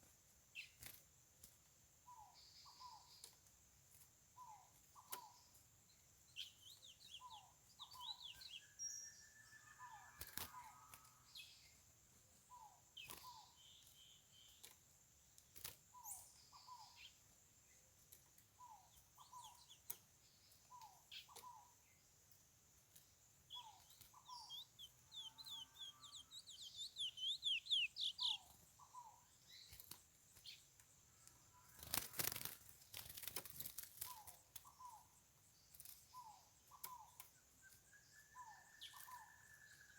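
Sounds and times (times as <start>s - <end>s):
bird chirping phrases: 2.0s - 39.9s.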